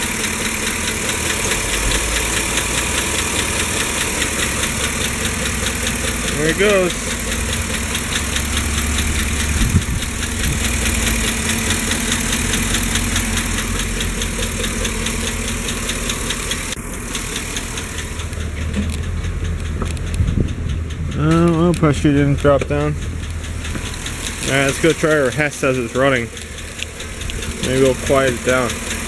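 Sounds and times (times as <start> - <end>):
engine idling: 0.0 - 29.0
fast even ticking: 0.0 - 29.0.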